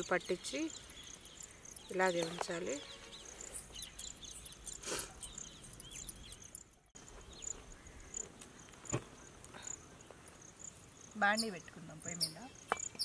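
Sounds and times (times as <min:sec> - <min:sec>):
bird chirps: 0:00.0 - 0:13.0
insects trilling: 0:00.0 - 0:13.0.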